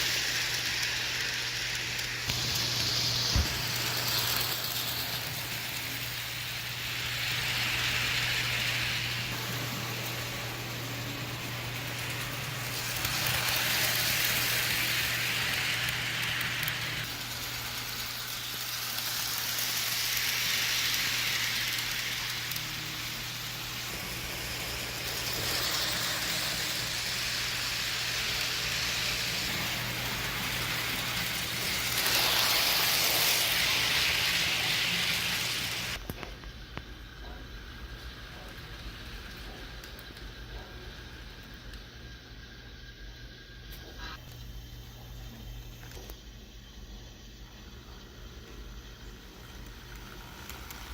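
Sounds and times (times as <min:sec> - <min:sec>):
model train running on track: 0:00.0 - 0:43.9, 0:45.8 - 0:50.9.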